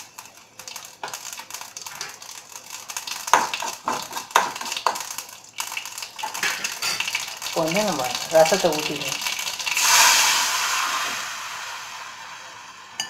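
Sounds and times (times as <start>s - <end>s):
seeds crackling in hot oil: 0.0s - 13.0s.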